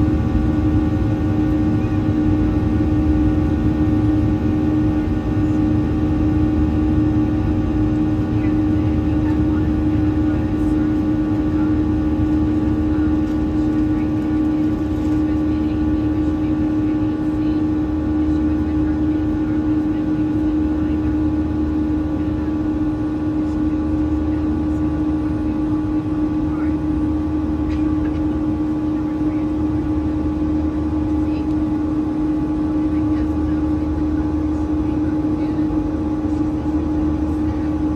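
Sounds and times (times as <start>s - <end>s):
airliner cabin drone: 0.0s - 37.9s.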